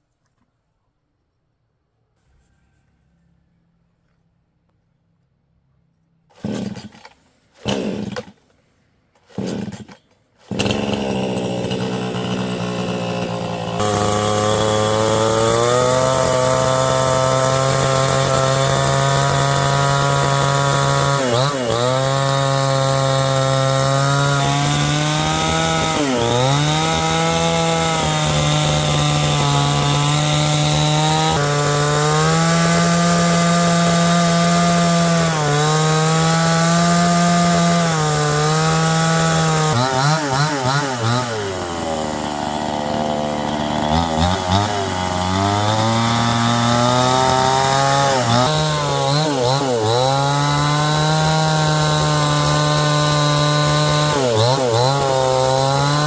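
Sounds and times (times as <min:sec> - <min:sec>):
small engine power tool running: 0:09.3 - 0:56.0.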